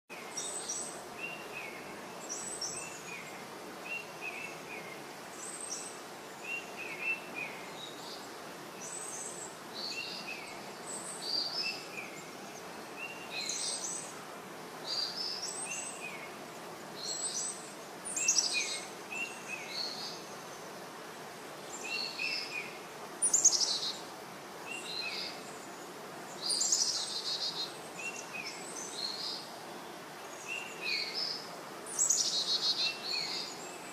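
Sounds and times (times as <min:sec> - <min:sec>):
faint steady hiss: 0:00.1 - 0:33.9
small birds chirping: 0:00.1 - 0:33.9.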